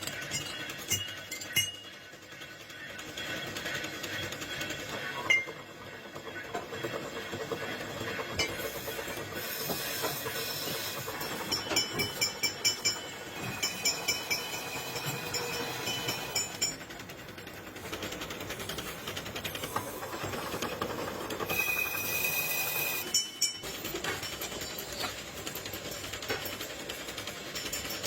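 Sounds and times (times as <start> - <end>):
machine high whine: 0.0 - 28.0
rapid metallic clattering: 0.0 - 28.0.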